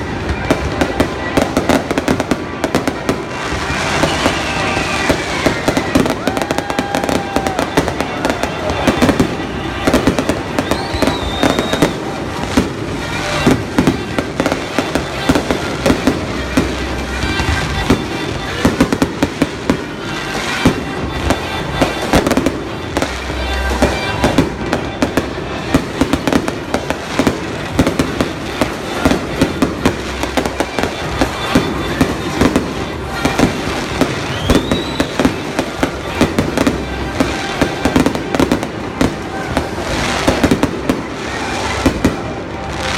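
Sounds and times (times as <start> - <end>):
fireworks bangs and crackles: 0.0 - 42.9
music playing: 0.0 - 42.9.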